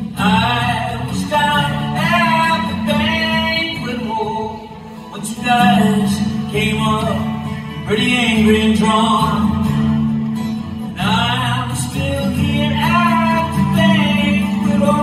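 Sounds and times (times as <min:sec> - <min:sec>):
man singing: 0:00.0 - 0:10.0, 0:10.8 - 0:15.0
acoustic guitar strumming: 0:00.0 - 0:15.0.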